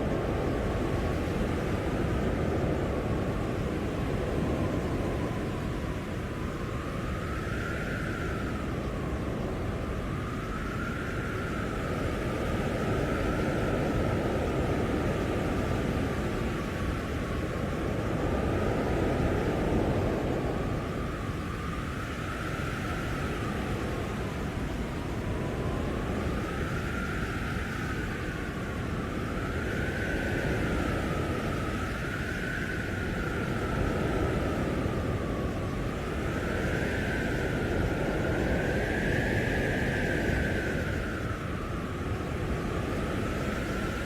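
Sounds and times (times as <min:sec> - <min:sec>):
blizzard wind blowing: 0:00.0 - 0:44.0.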